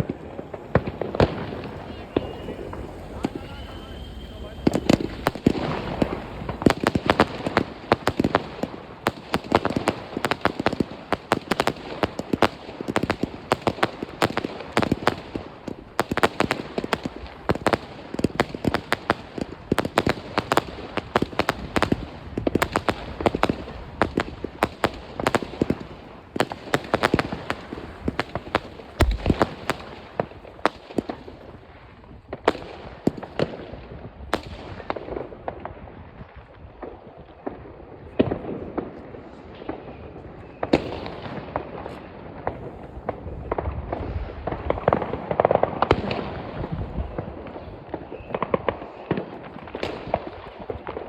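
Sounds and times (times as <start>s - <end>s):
fireworks bangs and crackles: 0.0s - 51.0s
rumble of distant explosions: 0.0s - 51.0s.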